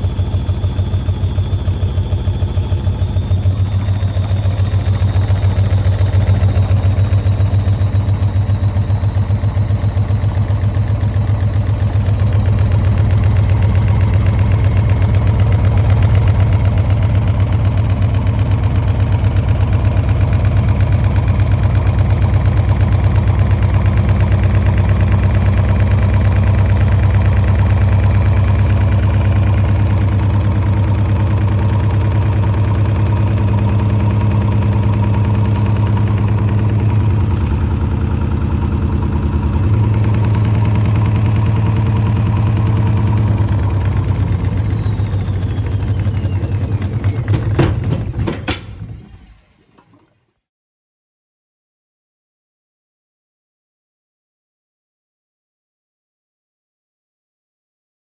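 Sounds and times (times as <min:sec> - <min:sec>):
high motor whine: 0:00.0 - 0:49.6
washing machine spinning: 0:00.0 - 0:50.3.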